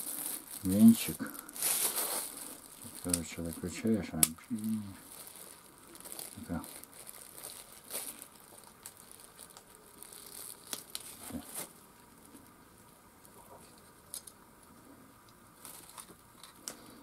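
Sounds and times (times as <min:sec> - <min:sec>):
plastic packaging rustling: 0:00.0 - 0:12.6, 0:15.6 - 0:17.0.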